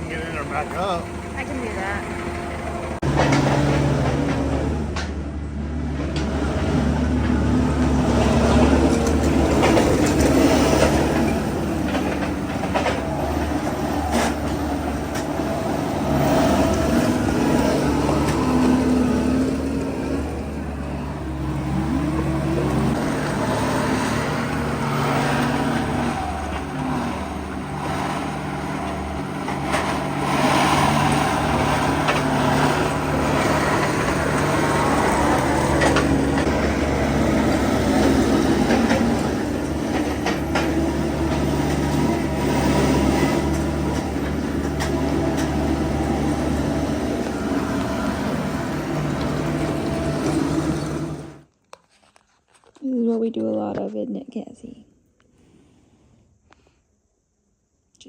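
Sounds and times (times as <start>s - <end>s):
tractor engine running: 0.0s - 51.5s.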